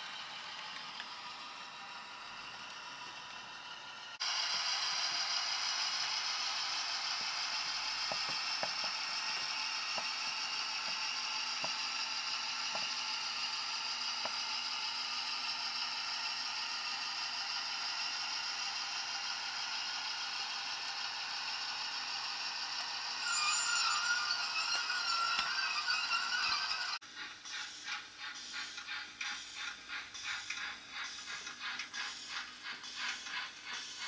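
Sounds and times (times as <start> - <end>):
model train motor whirring: 0.0 - 34.0
wheels clicking on track: 0.0 - 34.0.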